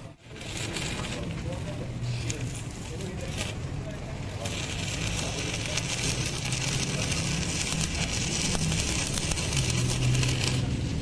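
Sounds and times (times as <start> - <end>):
welding arc crackling and sizzling: 0.0 - 11.0.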